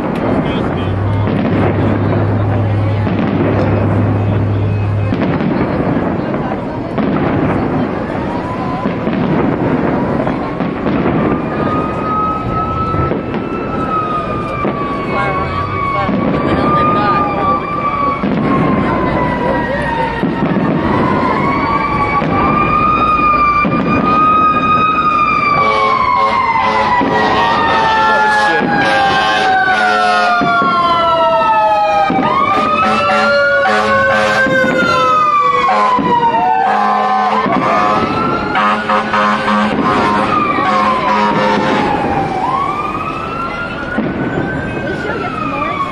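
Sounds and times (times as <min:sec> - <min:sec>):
emergency siren wailing: 0:00.0 - 0:45.9
fireworks bursting and crackling: 0:00.0 - 0:45.9.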